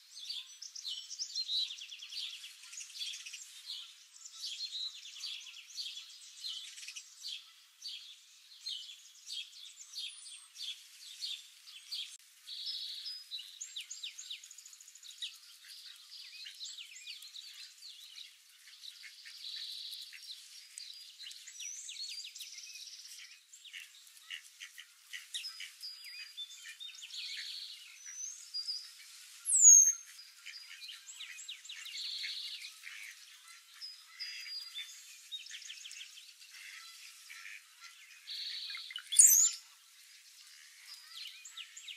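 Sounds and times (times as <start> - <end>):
songbirds chirping and singing: 0.0 - 41.9.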